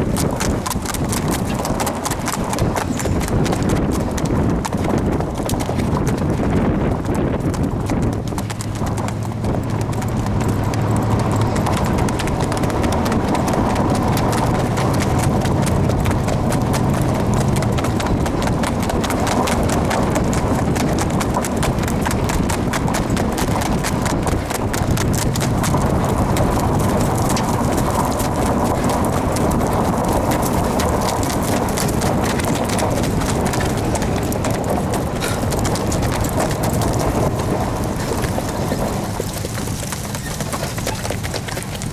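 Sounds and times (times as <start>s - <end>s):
horse hoofbeats: 0.0s - 41.9s.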